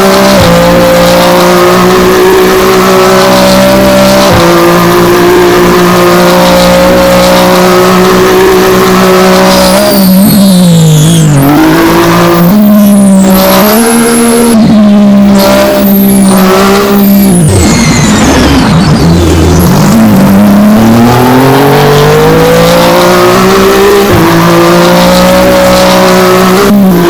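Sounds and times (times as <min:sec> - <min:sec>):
high falling whines: 0:00.0 - 0:27.0
racing car engine drone: 0:00.0 - 0:27.0.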